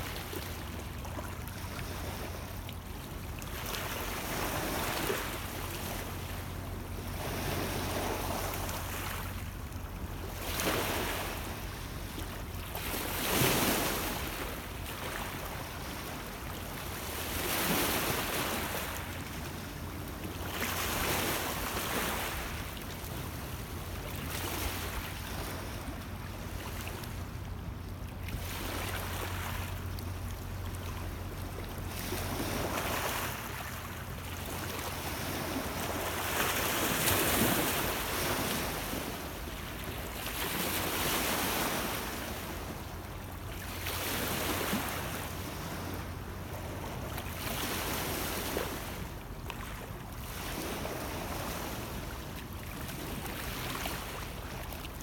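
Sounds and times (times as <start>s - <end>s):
low rumble of wind: 0.0s - 55.0s.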